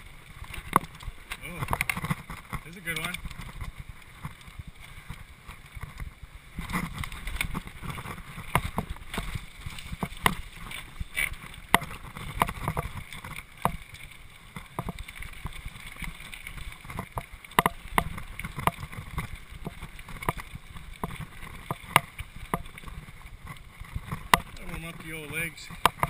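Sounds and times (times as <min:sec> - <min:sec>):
mountain bike rattling: 0:00.0 - 0:26.0
wheels knocking on rocks: 0:00.0 - 0:26.0
wind and tyre rumble: 0:00.0 - 0:26.0.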